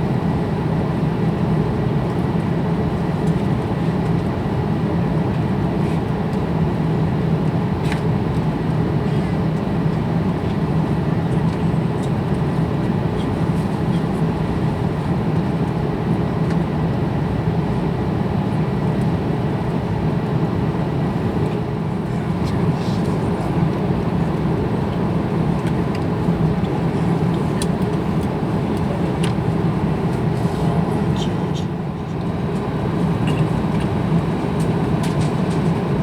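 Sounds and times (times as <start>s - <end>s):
airplane cabin drone: 0.0s - 36.0s.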